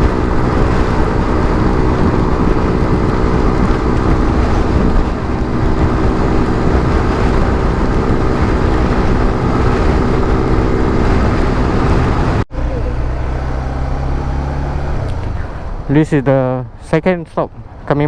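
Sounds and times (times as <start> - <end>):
motorcycle engine cruising: 0.0 - 16.2
road noise: 0.0 - 18.0.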